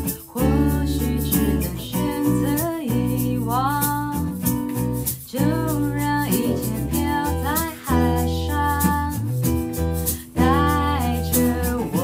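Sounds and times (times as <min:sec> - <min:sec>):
woman singing: 0:00.0 - 0:04.5, 0:05.1 - 0:09.3, 0:10.0 - 0:12.0
electric bass: 0:00.0 - 0:12.0
shaker percussion: 0:00.0 - 0:12.0
strummed acoustic guitar: 0:00.0 - 0:12.0.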